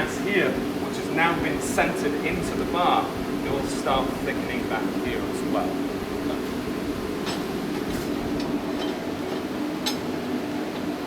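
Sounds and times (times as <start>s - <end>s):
forge humming: 0.0s - 11.0s.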